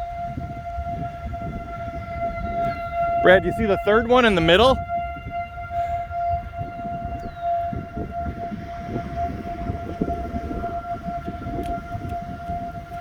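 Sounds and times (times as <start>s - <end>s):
low rumbling noise: 0.0s - 13.0s
warning siren steady tone: 0.0s - 13.0s.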